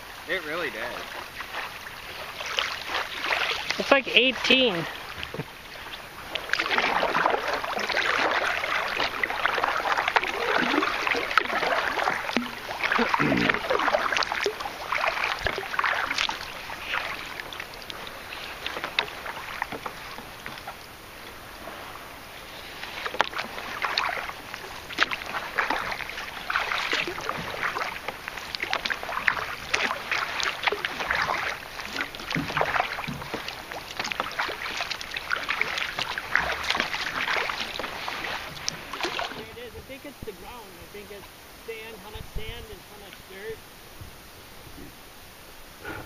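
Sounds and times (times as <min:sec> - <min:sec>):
paddle strokes splashing water: 0:00.0 - 0:46.0.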